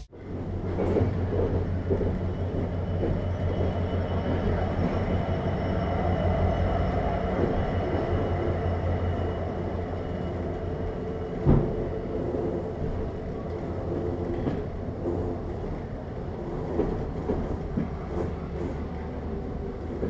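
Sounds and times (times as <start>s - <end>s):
train engine drone: 0.0s - 20.0s.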